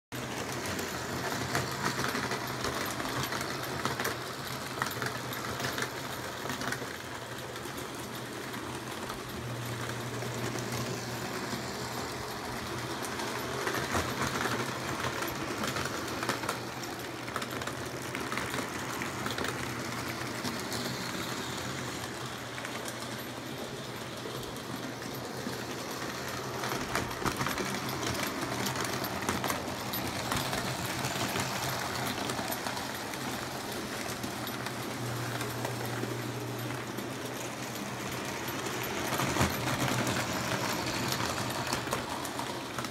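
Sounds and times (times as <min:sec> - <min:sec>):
model train motors whirring: 0:00.2 - 0:42.9
wheels clicking over rails: 0:00.2 - 0:42.9.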